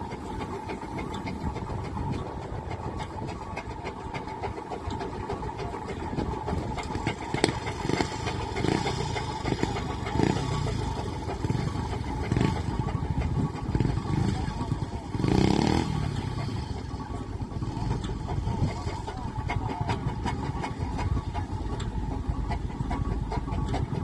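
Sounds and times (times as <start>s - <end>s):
steam engine running: 0.0s - 24.0s.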